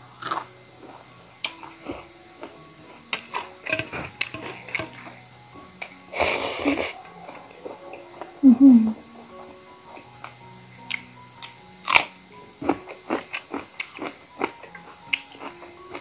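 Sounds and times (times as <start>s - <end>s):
soft background music: 0.0s - 16.0s
chewing: 0.2s - 5.2s, 5.8s - 8.4s, 9.3s - 16.0s.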